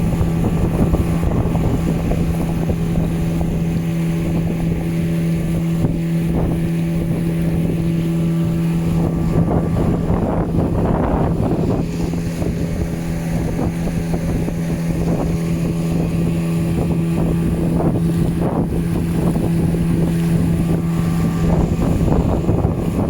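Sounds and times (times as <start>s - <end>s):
outboard motor running: 0.0s - 23.0s
water rushing: 0.0s - 23.0s
wind noise: 0.0s - 23.0s.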